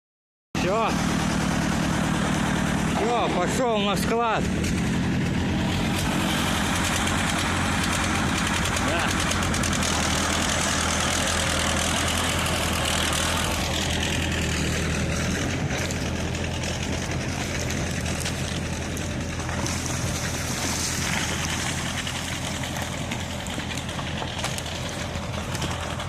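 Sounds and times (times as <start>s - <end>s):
crawler tractor diesel engine: 0.6s - 26.0s.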